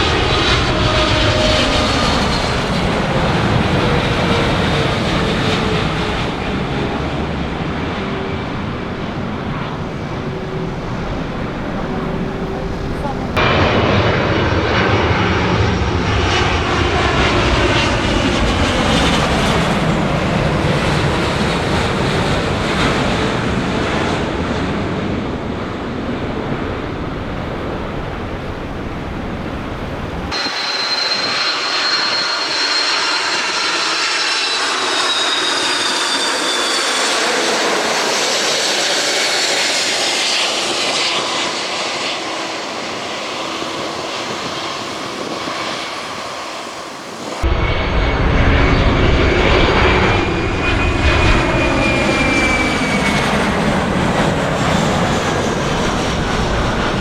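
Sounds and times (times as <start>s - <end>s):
high jet engine whine: 0.0s - 57.0s
jet engines roaring: 0.0s - 57.0s.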